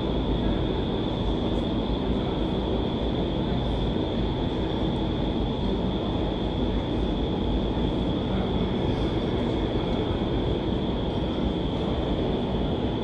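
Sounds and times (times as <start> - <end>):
high fan whine: 0.0 - 13.0
wind tunnel fans rumbling: 0.0 - 13.0.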